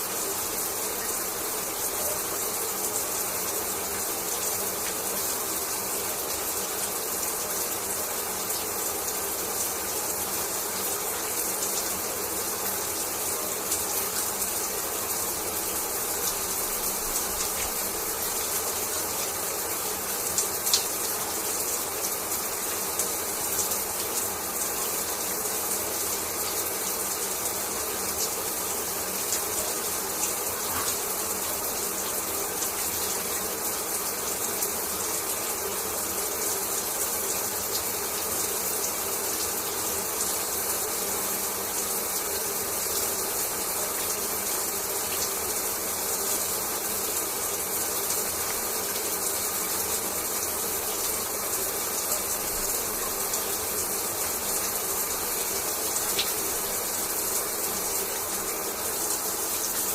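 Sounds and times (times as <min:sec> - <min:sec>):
shower running: 0:00.0 - 0:59.9.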